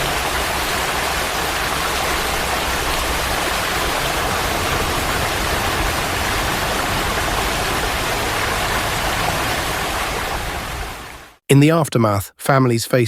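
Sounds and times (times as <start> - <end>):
floodwater rushing: 0.0 - 11.4.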